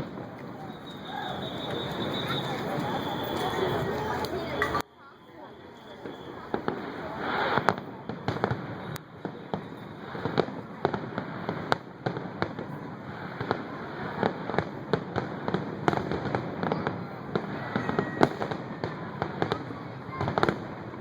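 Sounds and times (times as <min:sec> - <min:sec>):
fireworks bangs and pops: 0:00.0 - 0:04.8, 0:05.9 - 0:21.0
rumble of distant fireworks: 0:00.0 - 0:21.0.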